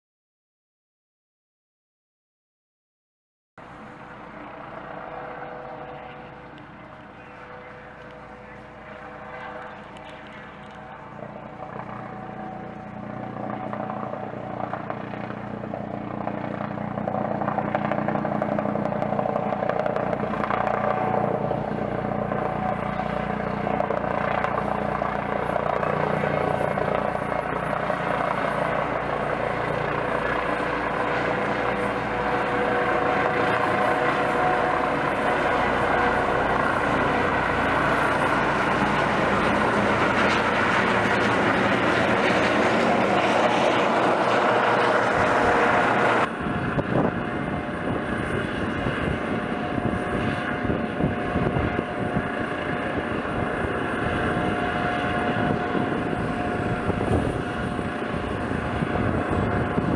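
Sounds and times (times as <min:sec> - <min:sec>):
helicopter rotor and turbine noise: 0:03.6 - 0:59.9.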